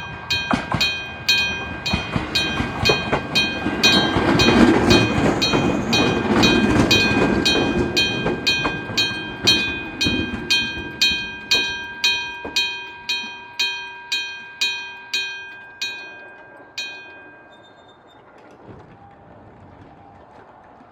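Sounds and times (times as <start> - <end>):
level-crossing bell ringing: 0.0 - 18.1
train rumbling past: 0.0 - 20.9.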